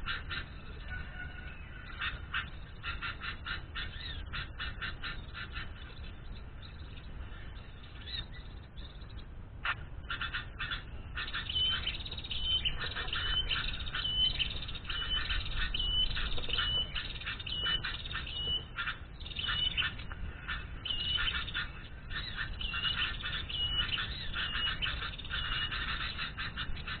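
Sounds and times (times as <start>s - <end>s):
small birds chattering: 0.0s - 27.0s.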